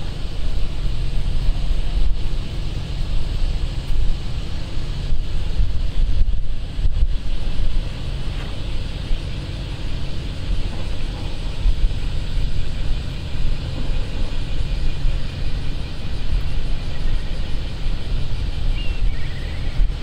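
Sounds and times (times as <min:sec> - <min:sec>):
low rumble: 0:00.0 - 0:20.0
wind buffeting microphone: 0:00.0 - 0:20.0.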